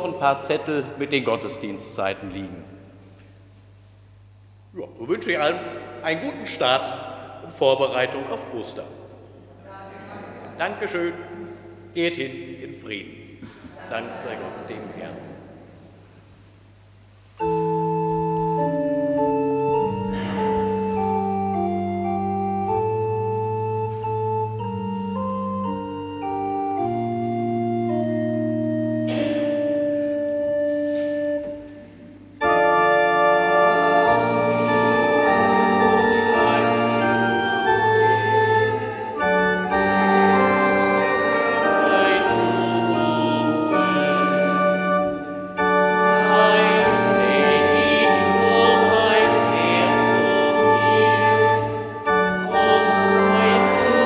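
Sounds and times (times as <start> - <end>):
organ playing a hymn: 0.0 - 9.1, 10.5 - 54.0.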